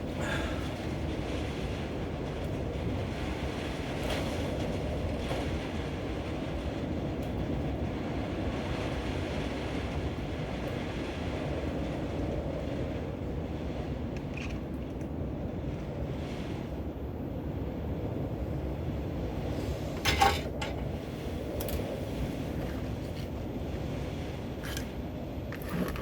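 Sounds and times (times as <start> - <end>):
strong wind rumbling: 0.0 - 26.0.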